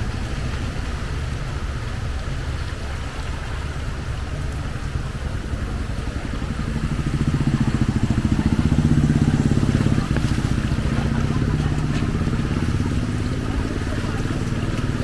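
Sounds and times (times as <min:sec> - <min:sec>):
steady rain: 0:00.0 - 0:15.0
vehicle engine approaching: 0:00.0 - 0:15.0.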